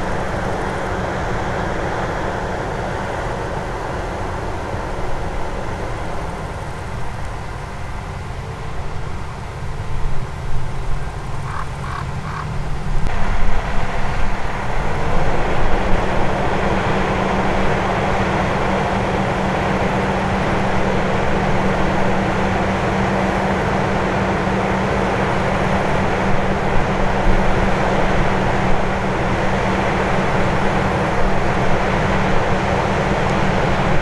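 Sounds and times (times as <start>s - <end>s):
combine harvester engine and threshing: 0.0s - 34.0s.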